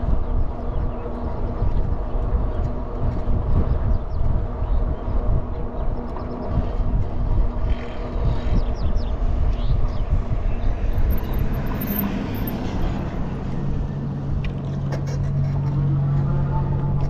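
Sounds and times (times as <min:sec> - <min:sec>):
low engine hum: 0:00.0 - 0:17.0
wind buffeting microphone: 0:00.0 - 0:17.0.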